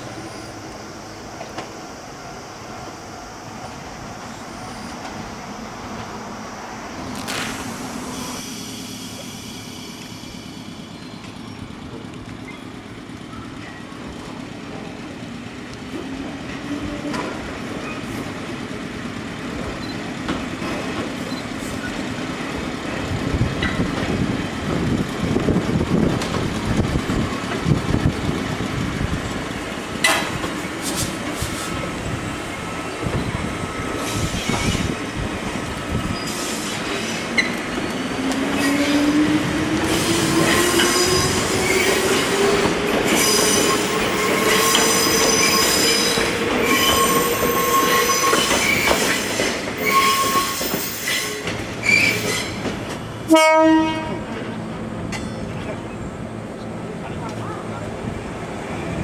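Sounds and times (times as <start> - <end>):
low electric train hum: 0.0 - 59.0.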